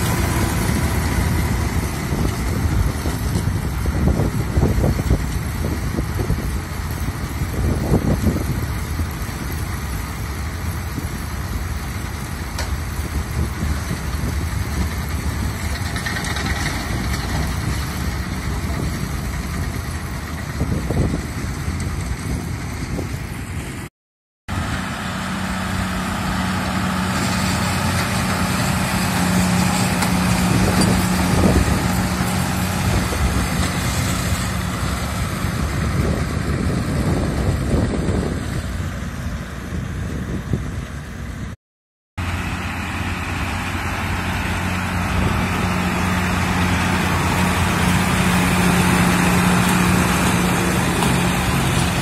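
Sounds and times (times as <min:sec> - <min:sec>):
tractor diesel engine running: 0:00.0 - 0:23.9, 0:24.5 - 0:41.6, 0:42.2 - 0:52.0.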